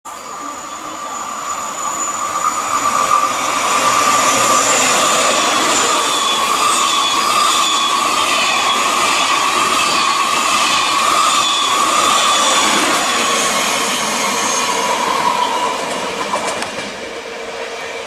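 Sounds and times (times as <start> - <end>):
high whine of train: 0.0 - 18.0
high-speed train passing: 0.1 - 18.0.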